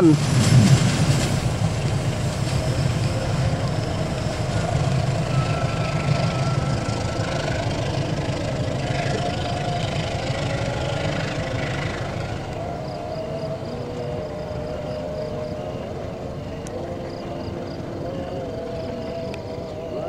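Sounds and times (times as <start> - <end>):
thin whining tones: 0.0 - 20.0
train wheels rumbling on rails: 0.0 - 20.0.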